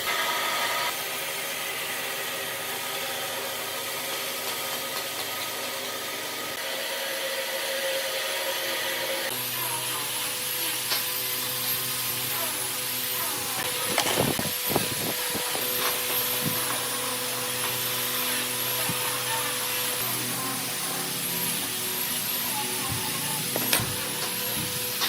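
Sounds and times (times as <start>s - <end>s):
electric power tool running: 0.0s - 25.0s.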